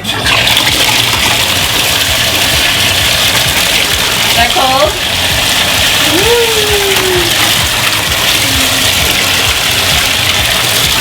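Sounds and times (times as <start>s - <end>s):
water gushing into bathtub: 0.0s - 11.0s.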